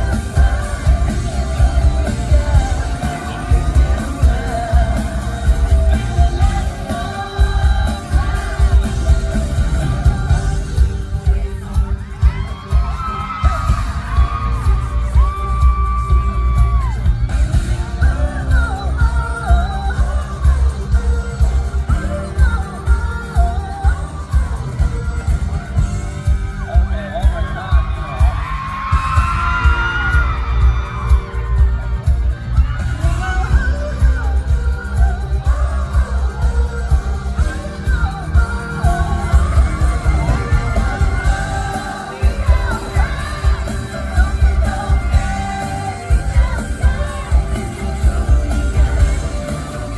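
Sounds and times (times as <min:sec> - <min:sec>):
live pop-rock band: 0:00.0 - 0:49.9
person singing: 0:00.0 - 0:49.9.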